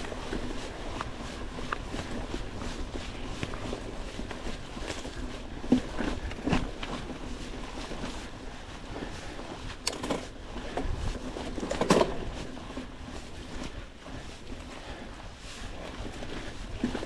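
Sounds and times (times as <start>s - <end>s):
bike rattling: 0.0s - 17.0s
bike tyres rumbling over dirt: 0.0s - 17.0s.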